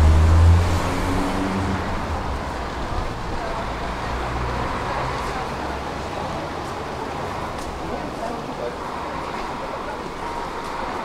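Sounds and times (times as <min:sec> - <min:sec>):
distant traffic hum: 0:00.0 - 0:11.0
passers-by talking: 0:00.4 - 0:11.0.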